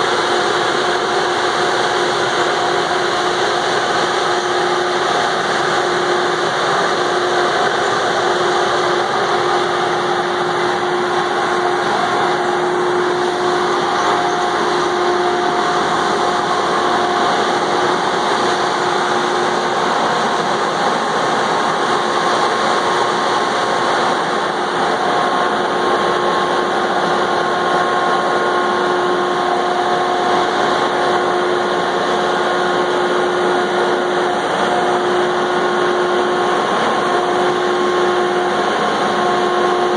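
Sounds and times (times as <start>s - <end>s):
heavy machine engine running: 0.0s - 39.9s
steady whining tones: 0.0s - 39.9s.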